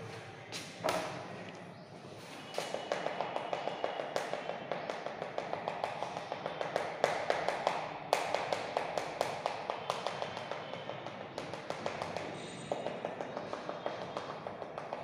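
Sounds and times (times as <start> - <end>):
chalk tapping on chalkboard: 2.4 - 15.0
sharp knocks: 2.6 - 15.0.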